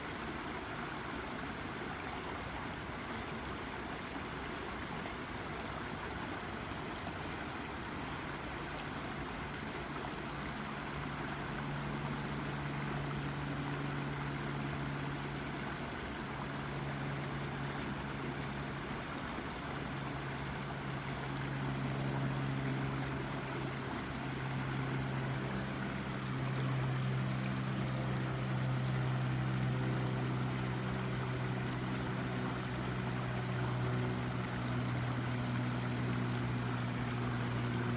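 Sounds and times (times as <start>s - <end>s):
brook water babbling over rocks: 0.0s - 37.9s.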